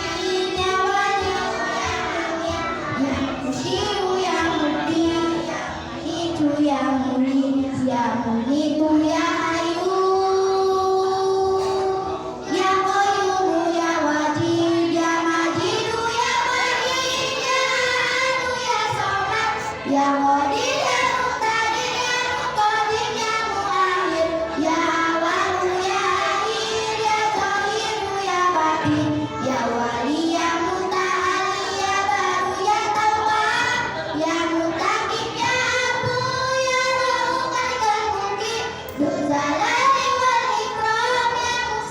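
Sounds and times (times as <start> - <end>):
children singing: 0.0 - 41.9.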